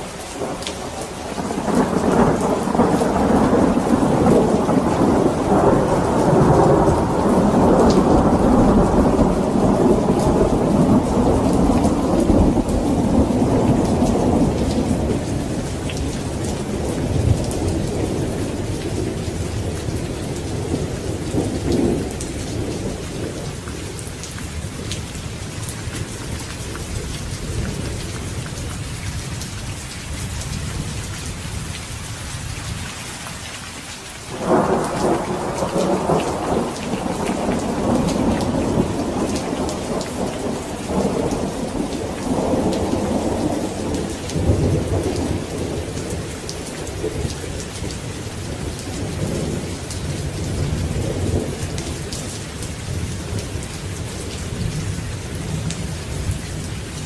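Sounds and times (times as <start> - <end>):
heavy rain falling: 0.0 - 57.0
rumbling thunder: 0.4 - 29.4, 34.3 - 57.0.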